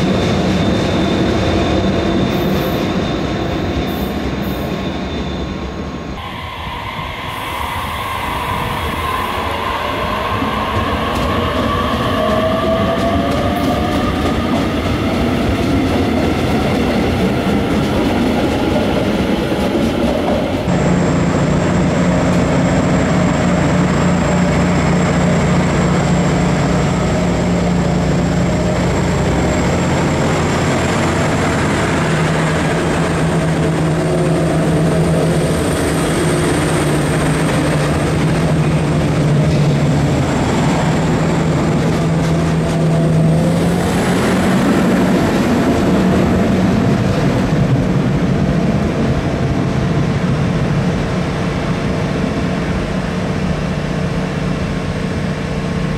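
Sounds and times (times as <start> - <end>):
diesel railcar engine drone: 0.0 - 55.9.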